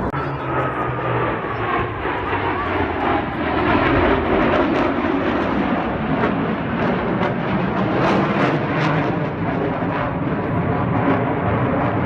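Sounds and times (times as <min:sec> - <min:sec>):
airplane engine in flight: 0:00.0 - 0:12.0.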